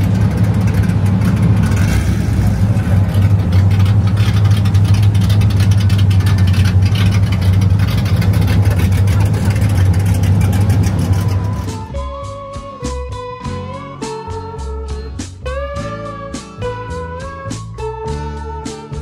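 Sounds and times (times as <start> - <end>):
deep engine drone: 0.0 - 19.0.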